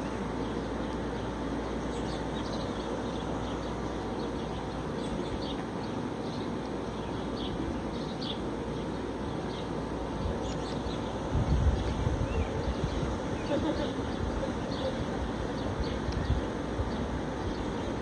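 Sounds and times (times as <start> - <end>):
outdoor background rumble: 0.0 - 18.0
small birds chirping: 0.0 - 18.0.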